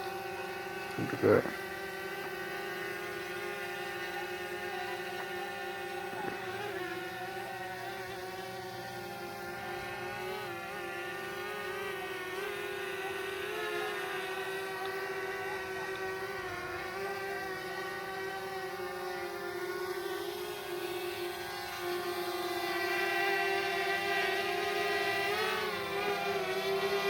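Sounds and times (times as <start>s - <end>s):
drone propeller whine: 0.0s - 27.0s.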